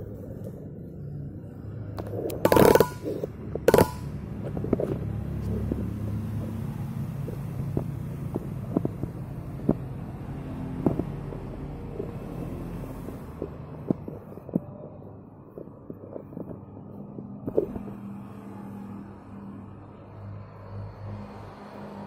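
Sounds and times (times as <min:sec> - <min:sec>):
low rumble of rubbing: 0:00.0 - 0:19.2.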